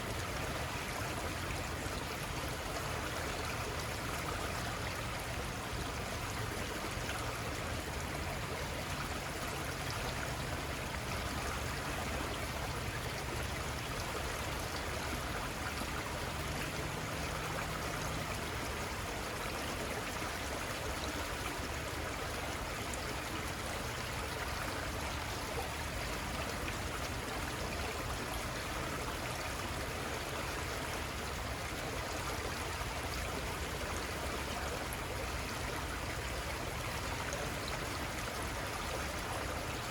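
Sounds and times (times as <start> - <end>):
small river running: 0.0 - 39.9.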